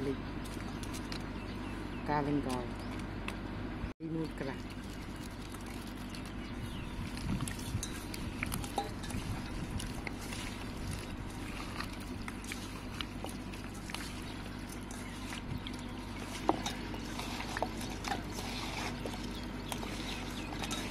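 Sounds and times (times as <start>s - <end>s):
wet squelching of hand mixing: 0.0s - 3.0s, 4.1s - 20.9s
steady low hum: 0.0s - 20.9s.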